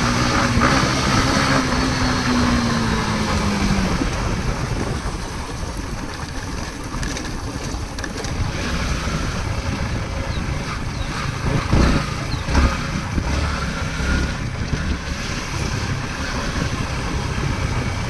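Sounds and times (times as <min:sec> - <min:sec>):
engine running: 0:00.0 - 0:18.0
rough rumbling noise: 0:00.0 - 0:18.0.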